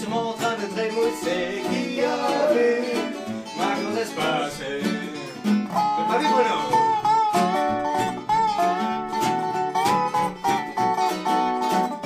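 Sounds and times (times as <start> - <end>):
slide guitar melody: 0.0 - 12.0
strummed acoustic guitar: 0.0 - 12.0
ukulele strumming: 0.0 - 12.0.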